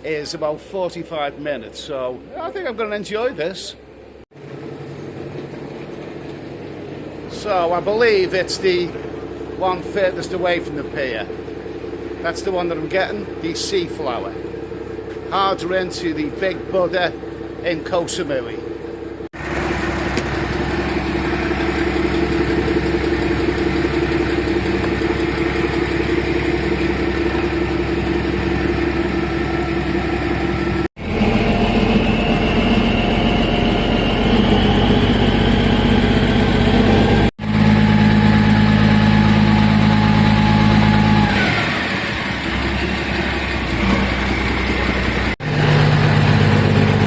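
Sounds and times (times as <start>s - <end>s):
ferry engine drone: 0.0s - 47.0s
high whine: 6.8s - 47.0s.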